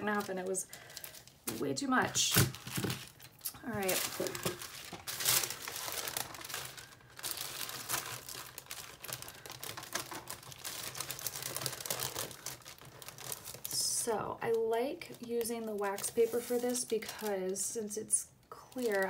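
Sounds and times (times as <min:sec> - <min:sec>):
wax paper rustling and crinkling: 0:00.0 - 0:17.9, 0:18.5 - 0:19.0.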